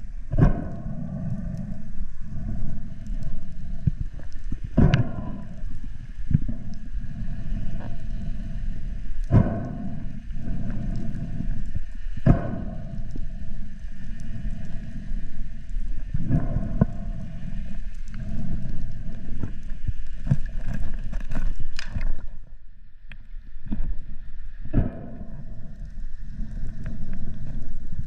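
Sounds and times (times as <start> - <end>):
underwater water rumble: 0.0 - 28.0.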